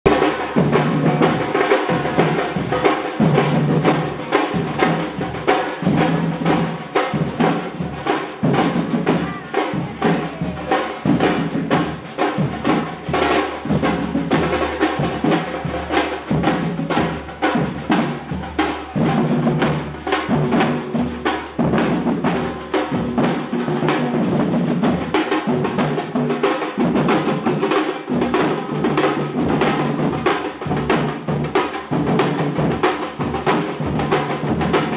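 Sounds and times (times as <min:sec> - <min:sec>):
children playing drums: 0:00.0 - 0:34.9.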